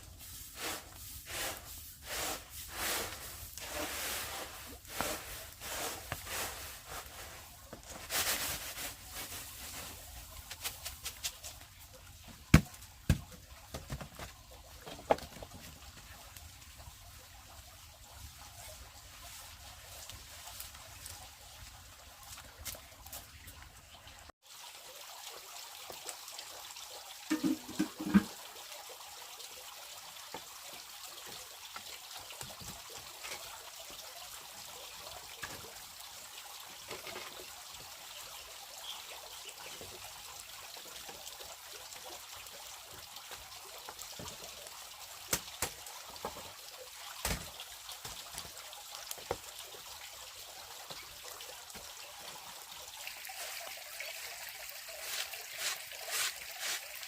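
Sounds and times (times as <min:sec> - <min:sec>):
water trickling: 0:00.1 - 0:57.0.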